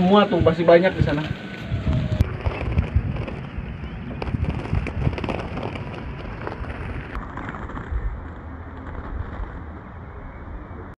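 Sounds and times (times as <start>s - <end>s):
wind rumbling on microphone: 0.0s - 10.9s.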